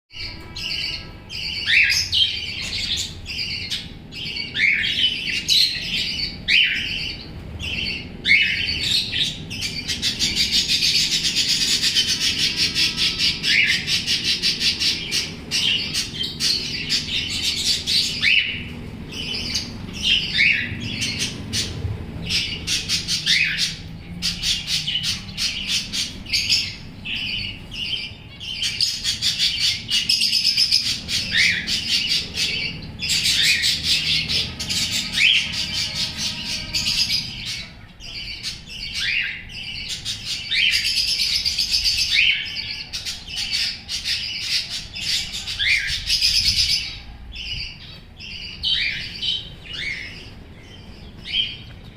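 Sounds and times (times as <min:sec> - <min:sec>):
budgerigars chirping and squawking: 0:00.2 - 0:51.9.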